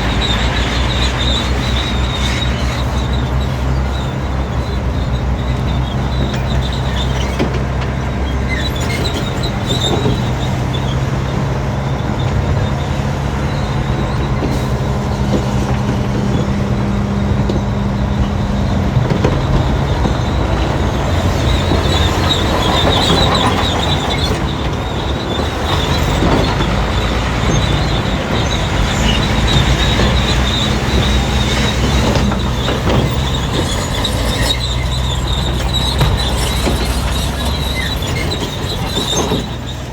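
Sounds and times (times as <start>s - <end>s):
bulldozer diesel engine: 0.0s - 39.9s
steel tracks squealing: 0.0s - 39.9s.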